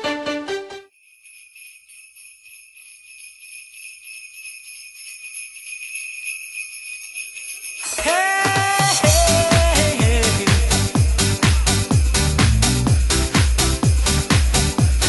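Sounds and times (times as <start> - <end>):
jingle bells shaking: 0.9 - 15.0.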